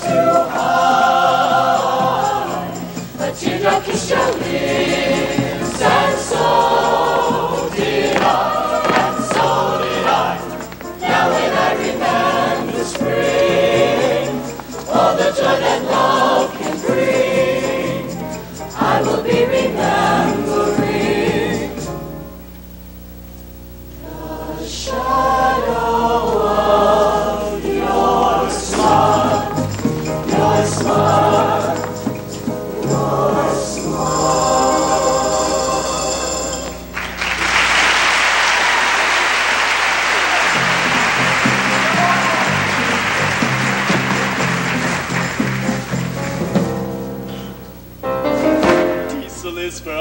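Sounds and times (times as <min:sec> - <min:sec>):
mixed-voice choir singing: 0:00.0 - 0:22.1, 0:24.0 - 0:46.6.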